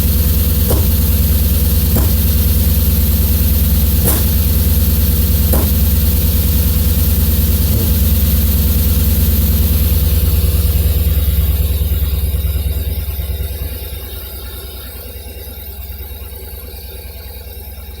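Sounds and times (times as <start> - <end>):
car engine idling with misfire: 0.0 - 15.6.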